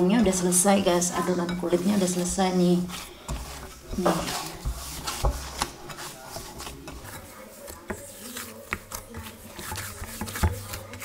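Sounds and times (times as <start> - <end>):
hands kneading dough: 0.0 - 11.0.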